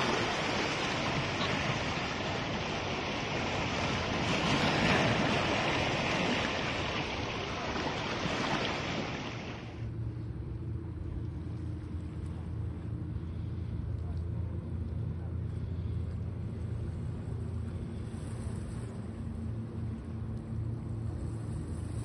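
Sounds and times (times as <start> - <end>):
low steady hum: 0.0 - 22.0
waves breaking: 0.0 - 22.0.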